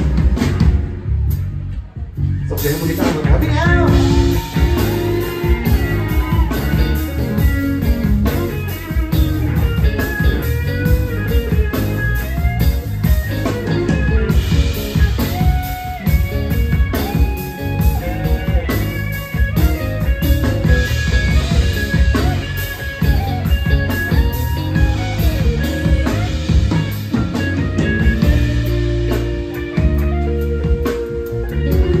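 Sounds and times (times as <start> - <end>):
drums keeping a steady beat: 0.0 - 32.0
electric bass: 0.0 - 32.0
electric guitar lead: 0.0 - 32.0.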